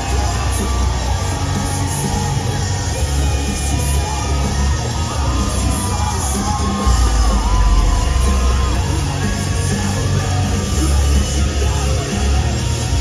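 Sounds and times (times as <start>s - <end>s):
audience yelling and whooping: 0.0s - 13.0s
heavy bass beat: 0.0s - 13.0s
person singing: 0.0s - 13.0s
pop dance track over speakers: 0.0s - 13.0s.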